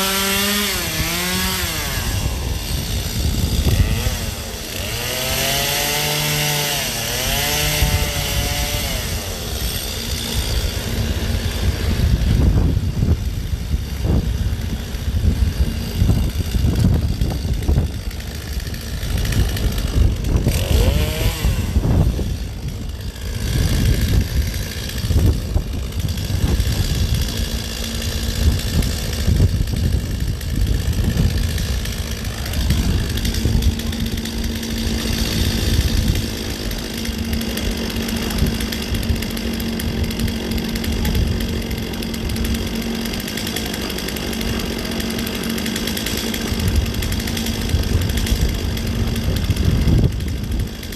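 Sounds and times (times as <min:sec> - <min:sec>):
chainsaw running: 0:00.0 - 0:50.9.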